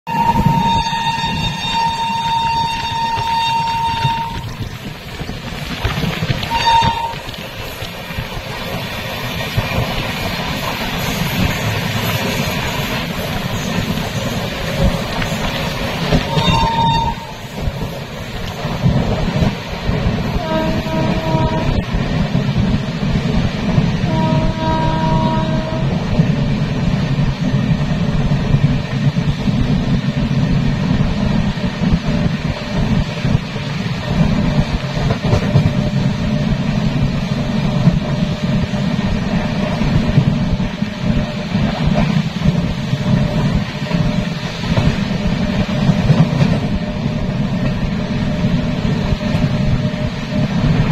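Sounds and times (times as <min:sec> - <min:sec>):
train running noise: 0:00.1 - 0:50.9
wind buffeting microphone: 0:00.1 - 0:50.9.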